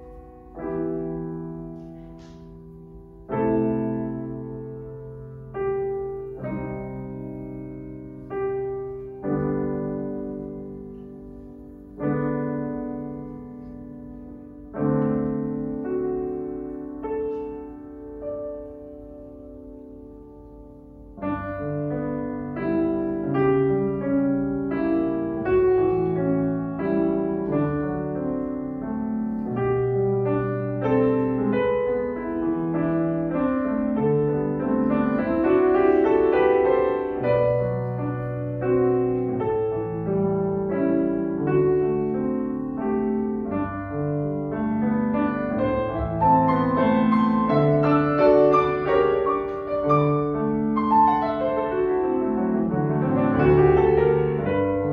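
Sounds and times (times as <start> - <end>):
slow solo piano piece: 0.0 - 54.9.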